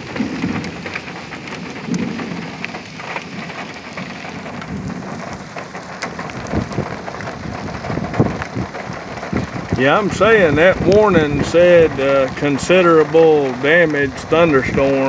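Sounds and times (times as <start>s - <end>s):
heavy rain falling: 0.0s - 15.0s
low thunder rumbles: 0.0s - 15.0s
raindrops ticking close by: 0.0s - 15.0s.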